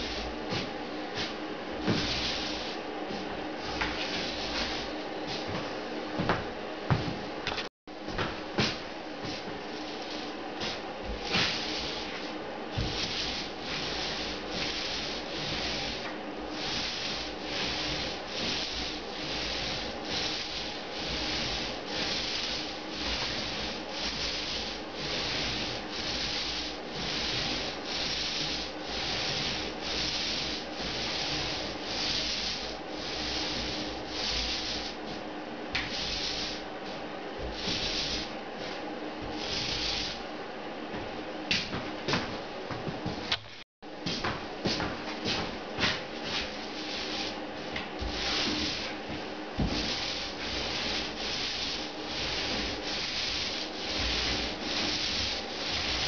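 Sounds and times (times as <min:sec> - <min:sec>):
paint roller rubbing on ceiling: 0:00.0 - 0:06.4, 0:08.6 - 0:43.3, 0:44.0 - 0:56.0.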